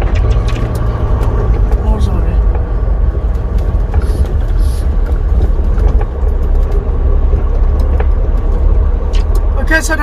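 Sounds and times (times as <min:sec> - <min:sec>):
faint rattles and clicks: 0:00.0 - 0:10.0
truck diesel engine rumbling: 0:00.0 - 0:10.0.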